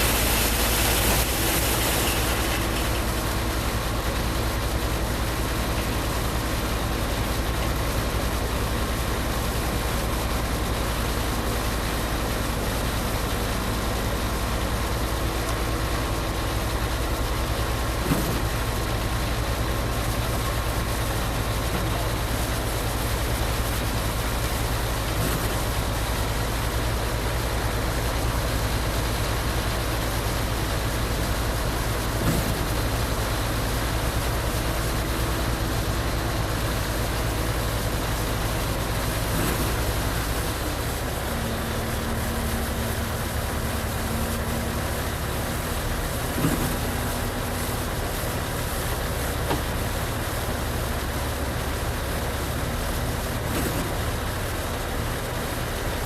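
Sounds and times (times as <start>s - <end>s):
diesel engine drone: 0.0s - 56.0s
pump rushing noise: 0.0s - 56.0s.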